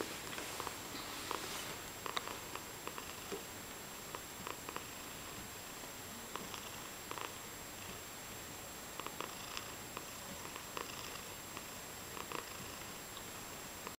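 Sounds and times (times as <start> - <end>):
cat purring: 0.0 - 8.1, 8.9 - 14.0.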